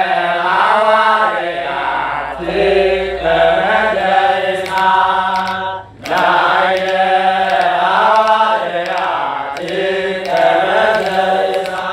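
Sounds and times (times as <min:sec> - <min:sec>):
hymn chanted in long notes: 0:00.0 - 0:11.9.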